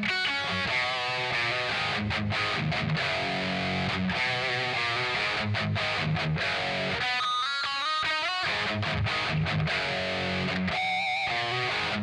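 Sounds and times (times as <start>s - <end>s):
distorted electric guitar riffs: 0.0s - 12.0s
single lead guitar notes: 0.0s - 12.0s.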